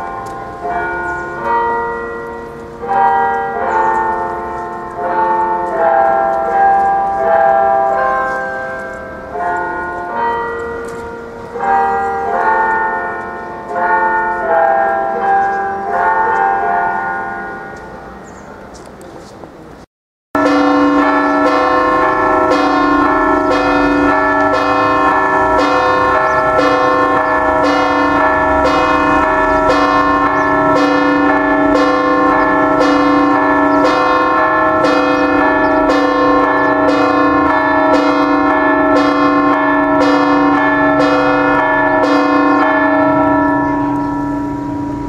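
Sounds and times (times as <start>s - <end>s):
church bells ringing: 0.0s - 19.6s, 20.4s - 45.0s.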